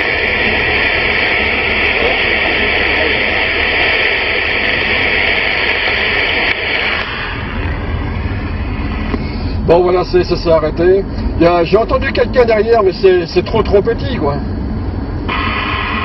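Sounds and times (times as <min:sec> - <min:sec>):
radio static hiss: 0:00.0 - 0:14.5, 0:15.2 - 0:16.0
low rumble: 0:00.0 - 0:16.0.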